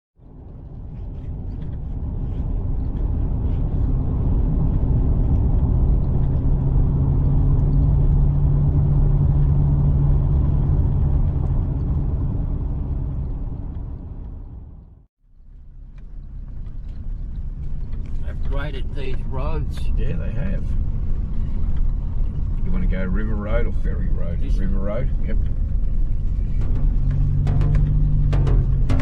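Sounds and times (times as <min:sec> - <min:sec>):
vehicle driving on road: 0:00.2 - 0:29.0.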